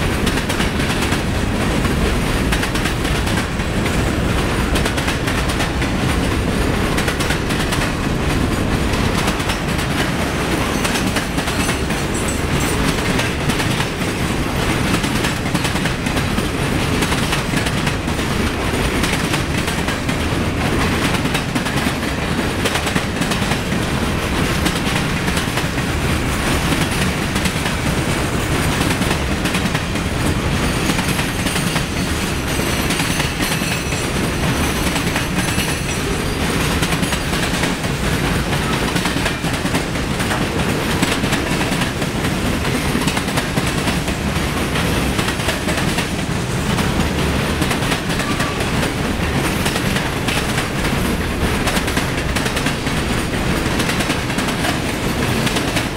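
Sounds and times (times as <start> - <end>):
freight train wheels rumbling on rail: 0.0 - 55.9
wheels clicking over rail joints: 0.0 - 55.9.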